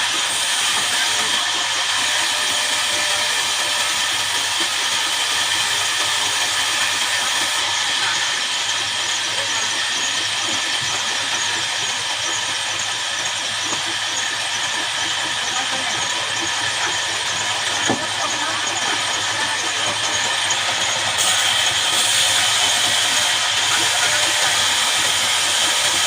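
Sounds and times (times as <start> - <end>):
band saw blade cutting log: 0.0 - 26.0.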